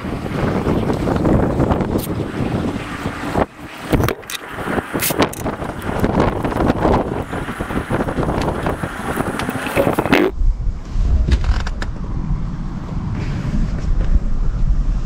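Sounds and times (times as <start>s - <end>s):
steady rush of noise: 0.0s - 15.0s.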